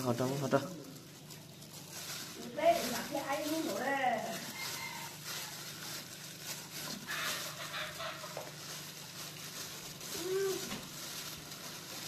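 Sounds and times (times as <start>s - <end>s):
plastic gloves crinkling: 0.0s - 12.0s.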